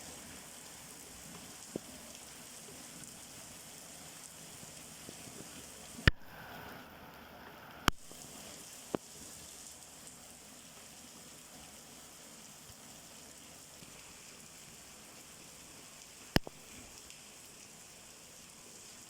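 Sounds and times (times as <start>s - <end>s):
rainfall hiss: 0.0s - 19.0s.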